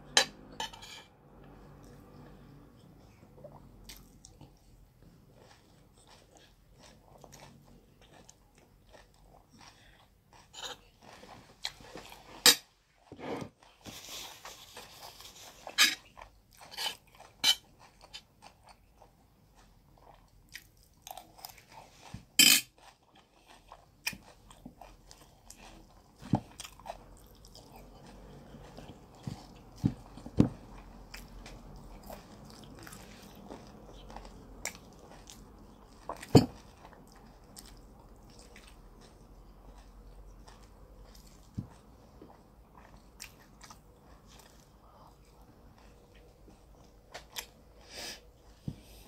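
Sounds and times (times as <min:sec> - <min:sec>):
chewing and crunching food: 0:01.4 - 0:49.0.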